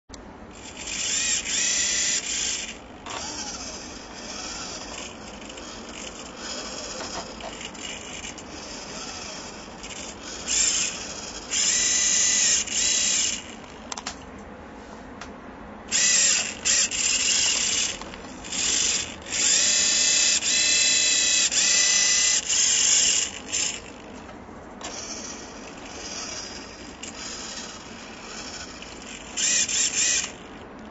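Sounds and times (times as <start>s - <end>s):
faint hum: 0.1s - 30.9s
servo motor whines: 0.6s - 13.8s, 15.9s - 24.2s, 24.8s - 30.6s.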